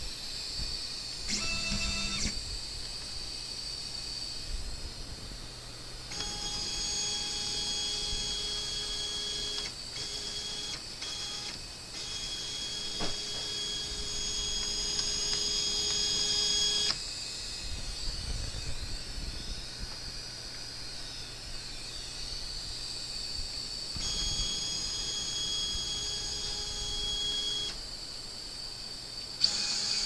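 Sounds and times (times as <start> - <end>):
stepper motors whining: 0.0 - 4.4, 6.1 - 27.9, 29.4 - 30.0.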